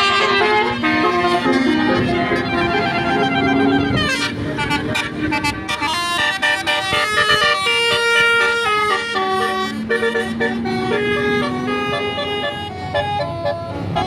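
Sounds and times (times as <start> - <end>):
bus musical air horn: 0.0 - 14.0.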